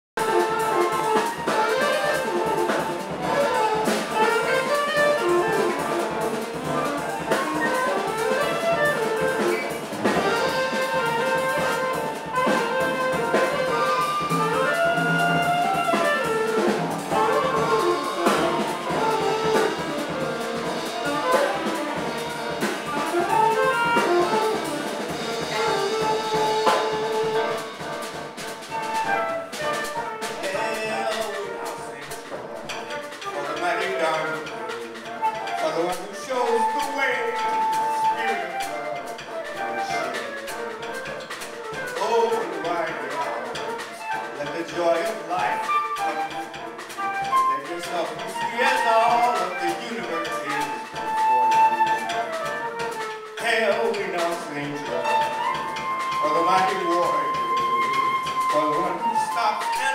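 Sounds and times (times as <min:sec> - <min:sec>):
alto saxophone: 0:00.2 - 0:54.0, 0:54.6 - 0:59.9
drum kit: 0:00.2 - 0:59.9
flute: 0:00.2 - 0:59.9
piano: 0:00.2 - 0:59.9.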